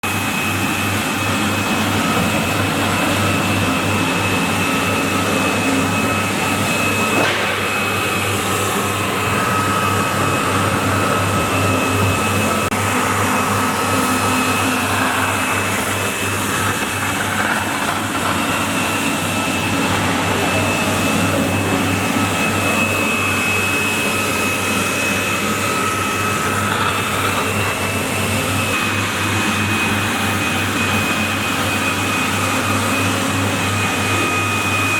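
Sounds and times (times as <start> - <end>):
floor scrubber motor whine: 0.0 - 34.9.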